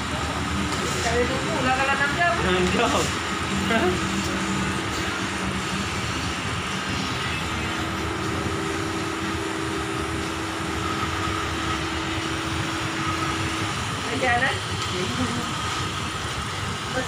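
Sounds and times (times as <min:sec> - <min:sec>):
constant rushing noise: 0:00.0 - 0:17.0
mechanical hum: 0:00.0 - 0:17.0.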